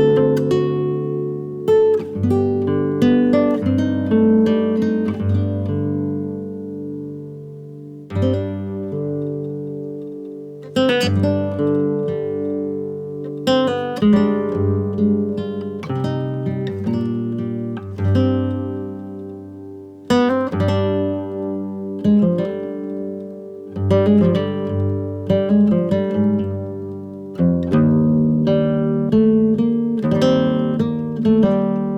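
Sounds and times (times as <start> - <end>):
acoustic guitar strumming chords: 0.0 - 31.9.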